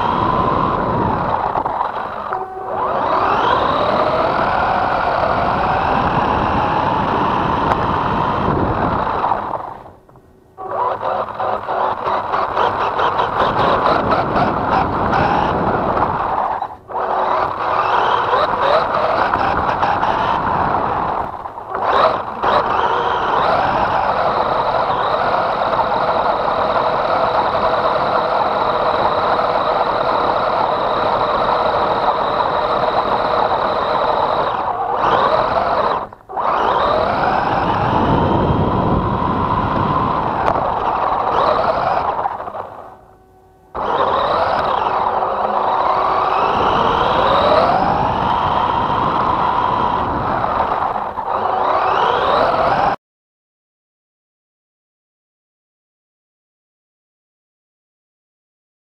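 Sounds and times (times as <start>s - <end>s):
electric motor and gears whining: 0.0s - 53.0s.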